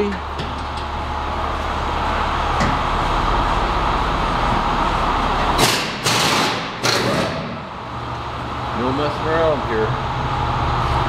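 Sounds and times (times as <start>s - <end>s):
workshop machinery drone: 0.0s - 11.0s.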